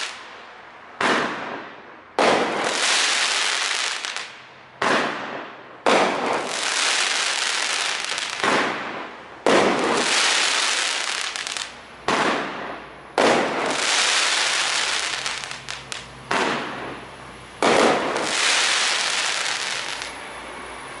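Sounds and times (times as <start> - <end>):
firework sharp pops: 0.0 - 0.4, 1.0 - 20.1
firework sizzling crackle: 0.0 - 0.4, 2.3 - 4.5, 6.0 - 21.0
firework bangs: 0.0 - 20.2.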